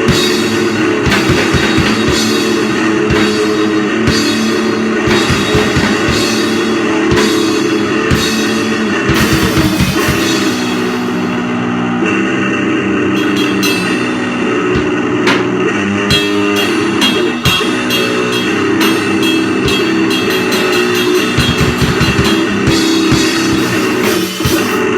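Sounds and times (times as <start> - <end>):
pounding drums and cymbals: 0.0 - 11.7, 13.1 - 24.9
distorted guitar and bass: 0.0 - 24.9.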